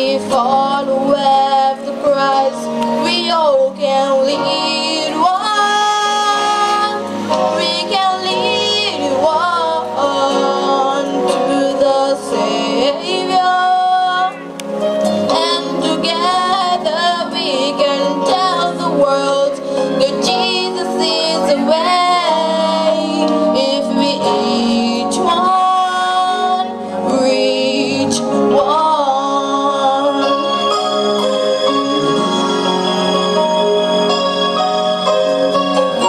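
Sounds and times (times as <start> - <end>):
woman singing gospel song: 0.0 - 14.5, 15.3 - 32.2
instrumental accompaniment: 0.0 - 36.0.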